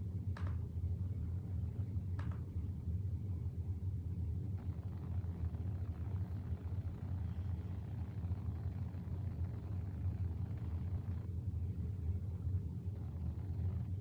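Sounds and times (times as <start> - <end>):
low rumble of background noise: 0.0 - 14.0.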